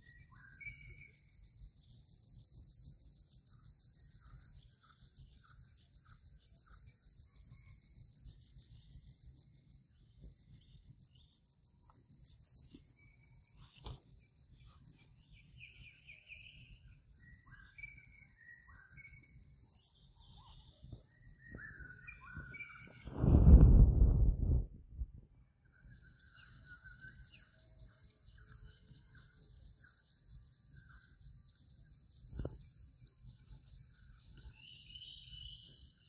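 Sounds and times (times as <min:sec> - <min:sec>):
faint bird chirps: 0:00.0 - 0:23.1, 0:25.4 - 0:31.8, 0:33.5 - 0:36.0
insect chirping high and shrill: 0:00.0 - 0:23.1, 0:25.8 - 0:36.0.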